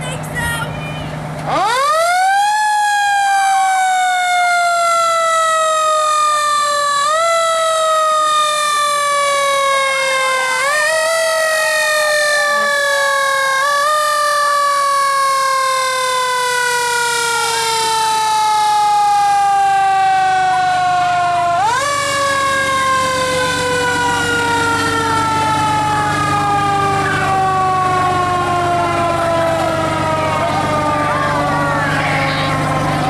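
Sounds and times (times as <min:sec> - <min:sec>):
fire engine mechanical siren: 0:00.0 - 0:33.0.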